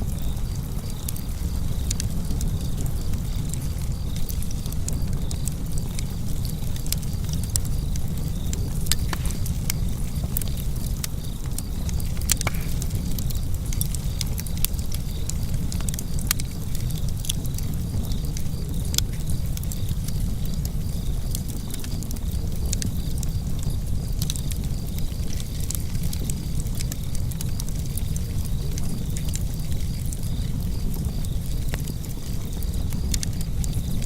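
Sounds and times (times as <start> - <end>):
fire low rumble: 0.0 - 34.0
wood fire crackles and pops: 0.0 - 34.0.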